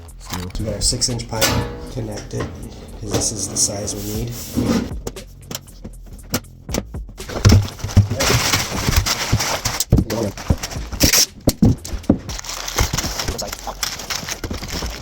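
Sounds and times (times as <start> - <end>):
metal scraping: 0.0 - 6.4, 7.2 - 15.0
sheet-metal duct knocking and clattering: 0.2 - 5.3, 6.2 - 15.0.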